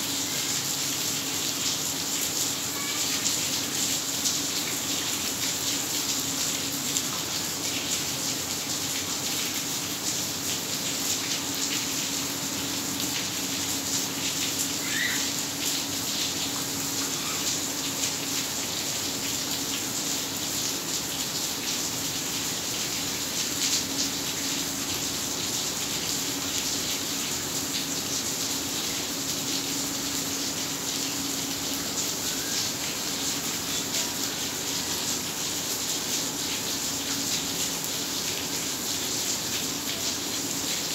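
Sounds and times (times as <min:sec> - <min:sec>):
heavy rain splashing into water: 0:00.0 - 0:40.9.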